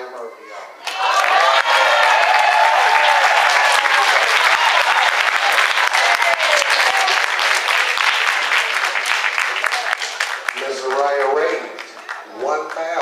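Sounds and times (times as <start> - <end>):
crowd applauding: 0.8 - 13.0.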